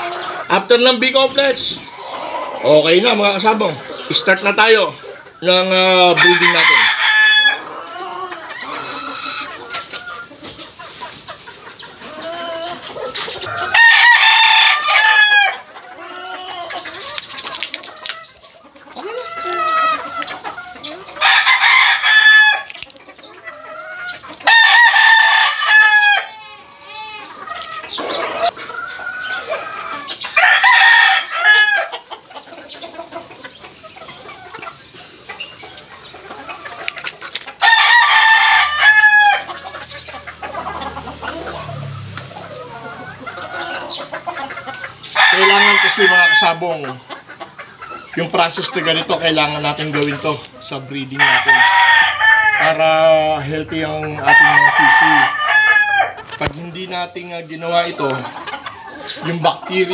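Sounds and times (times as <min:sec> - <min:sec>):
chickens clucking: 0:00.0 - 0:59.9
roosters crowing: 0:00.0 - 0:59.9.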